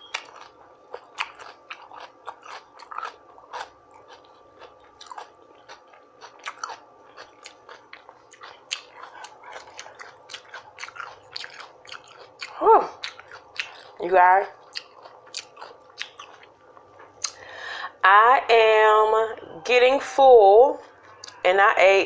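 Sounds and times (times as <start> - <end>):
person chewing food: 0.0 - 17.6, 20.7 - 21.4.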